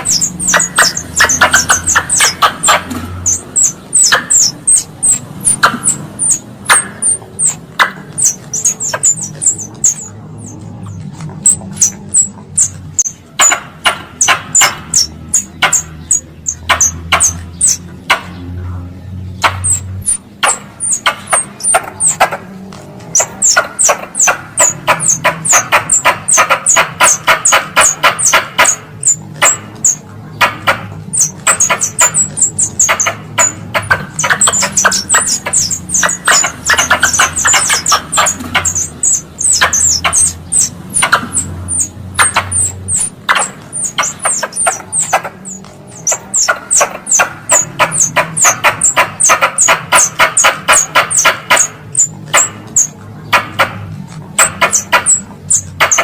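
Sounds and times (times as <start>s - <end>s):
squirrel chattering chirps: 0.0s - 18.6s, 19.3s - 56.0s.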